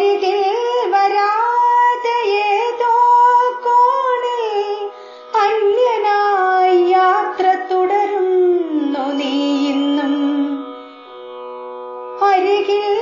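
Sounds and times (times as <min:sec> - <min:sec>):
woman singing: 0:00.0 - 0:10.8, 0:12.2 - 0:13.0.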